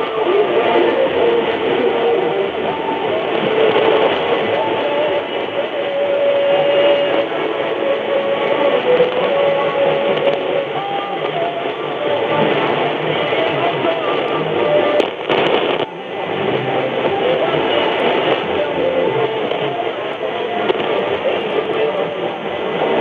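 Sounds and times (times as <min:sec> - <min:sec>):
faint radio music: 0:00.0 - 0:23.0
radio static and hiss: 0:00.0 - 0:23.0.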